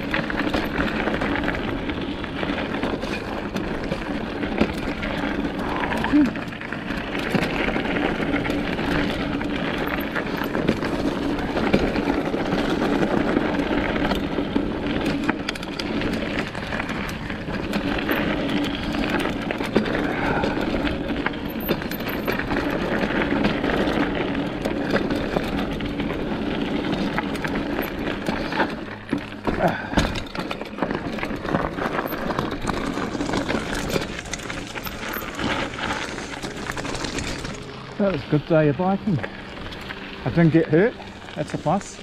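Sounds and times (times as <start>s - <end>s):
bike clicks and rattles: 0.0s - 42.0s
bike tyres rolling on dirt: 0.0s - 42.0s.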